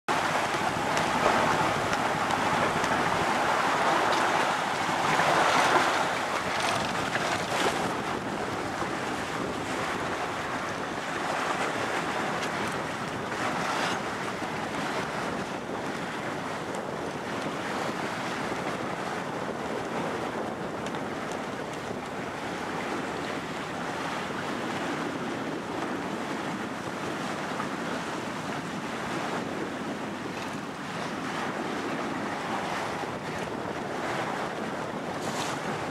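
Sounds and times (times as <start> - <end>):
sea water rushing past hull: 0.1 - 35.9
wind buffeting microphone: 0.1 - 35.9.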